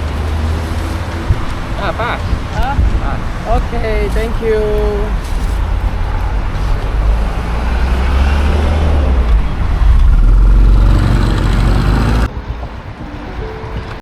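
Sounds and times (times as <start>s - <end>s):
motorcycle engine: 0.0s - 14.0s
road noise: 0.0s - 14.0s
wind rumbling on microphone: 0.0s - 14.0s.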